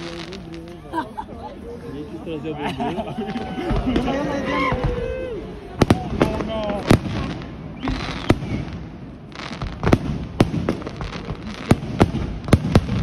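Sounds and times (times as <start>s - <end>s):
fireworks bangs: 0.0s - 1.0s, 3.1s - 13.0s
fireworks hissing: 0.0s - 2.5s, 3.2s - 13.0s.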